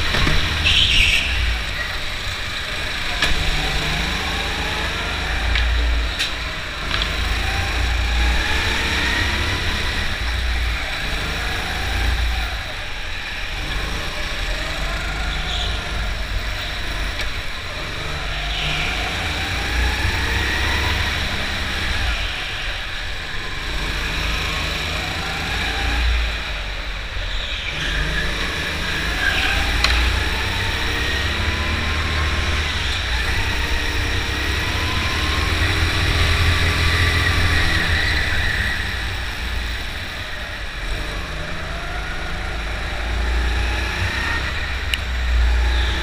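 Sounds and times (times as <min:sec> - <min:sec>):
go-kart motor revving: 0:00.0 - 0:46.0.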